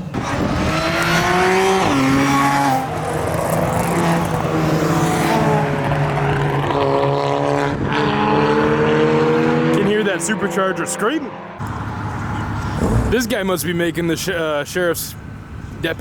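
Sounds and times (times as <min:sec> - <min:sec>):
sports car engine revving: 0:00.1 - 0:13.4.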